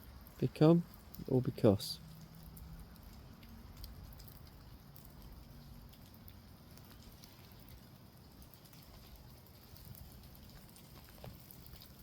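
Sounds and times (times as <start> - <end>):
light rain patter: 0.0 - 12.0.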